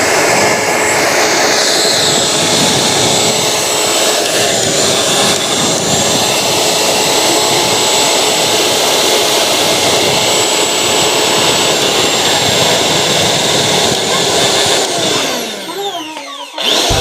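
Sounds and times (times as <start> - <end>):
mixer grinder motor whine: 0.0 - 17.0.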